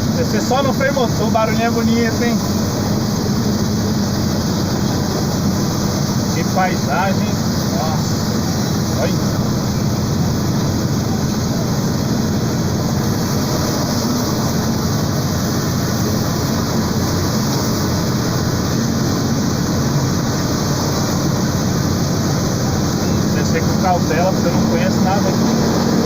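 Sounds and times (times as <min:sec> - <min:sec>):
diesel truck engine braking: 0:00.0 - 0:26.0.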